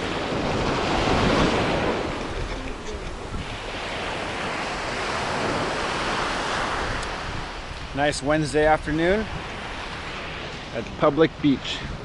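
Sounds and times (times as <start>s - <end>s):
small waves washing on beach: 0.0s - 12.0s
wind buffeting microphone: 0.0s - 12.0s.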